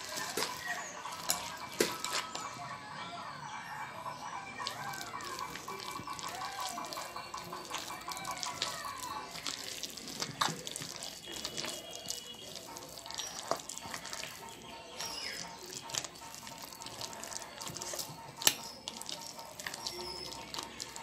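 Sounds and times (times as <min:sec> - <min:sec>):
hands squelching wet batter: 0:00.0 - 0:02.6, 0:04.4 - 0:21.0.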